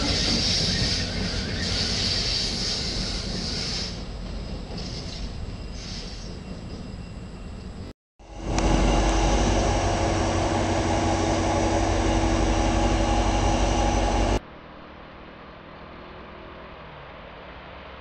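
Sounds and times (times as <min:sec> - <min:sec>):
diesel locomotive engines droning: 0:00.0 - 0:14.4.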